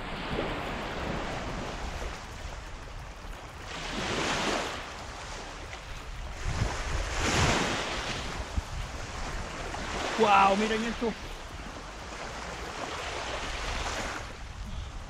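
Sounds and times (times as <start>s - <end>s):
small waves washing onto sand: 0.0s - 15.0s.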